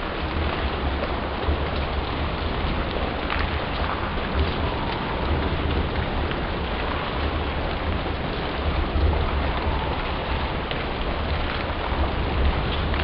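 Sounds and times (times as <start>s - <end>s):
separate raindrops: 0.0s - 13.0s
steady rain falling: 0.0s - 13.0s.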